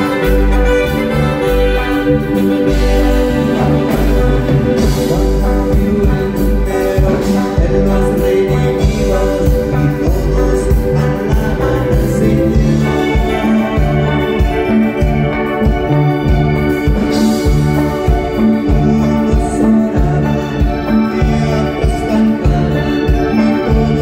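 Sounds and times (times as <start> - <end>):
bass and drums: 0.0 - 24.0
keyboard chords: 0.0 - 24.0.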